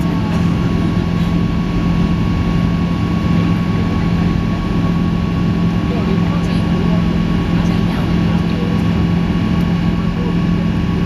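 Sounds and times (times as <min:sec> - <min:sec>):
airliner engine drone in cabin: 0:00.0 - 0:11.0.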